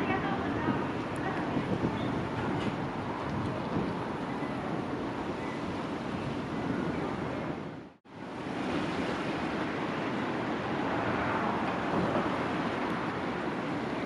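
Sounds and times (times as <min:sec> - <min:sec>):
strong wind rushing: 0:00.0 - 0:14.0.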